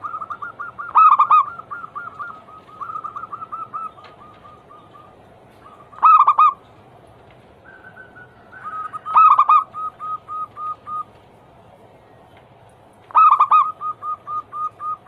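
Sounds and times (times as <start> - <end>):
dove cooing: 0.0 - 6.8, 7.6 - 11.2, 13.1 - 15.0.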